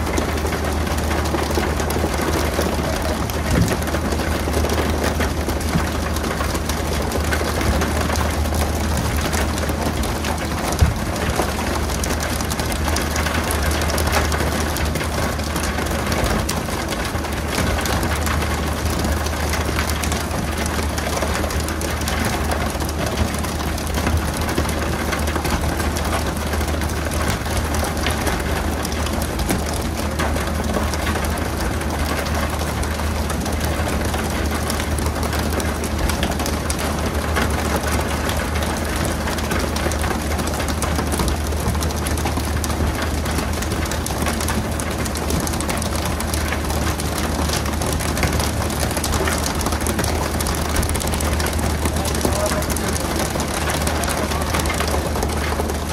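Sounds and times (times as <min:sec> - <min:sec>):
boat engine running: 0:00.0 - 0:55.9.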